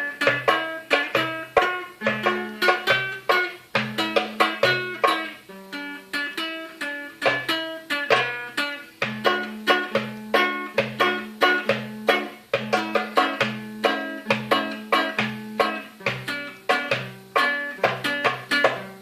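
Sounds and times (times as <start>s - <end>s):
hand drum strikes: 0.0s - 5.4s, 7.2s - 19.0s
plucked guitar notes: 0.0s - 19.0s.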